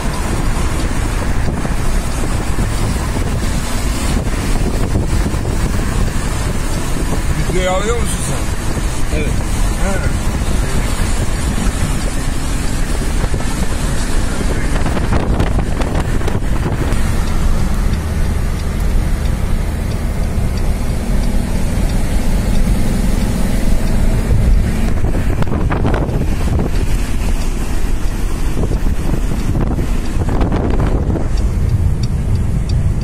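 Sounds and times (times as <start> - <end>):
car road and engine rumble: 0.0 - 33.0
wind buffeting microphone: 0.0 - 33.0.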